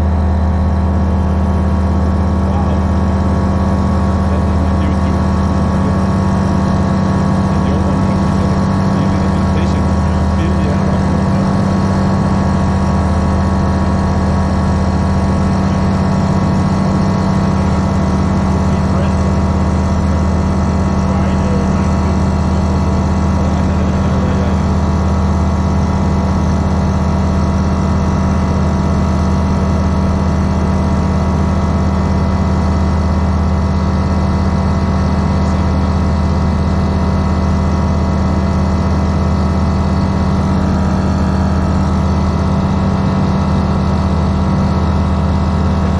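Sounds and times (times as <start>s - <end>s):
aircraft engine running at high power: 0.0s - 45.9s.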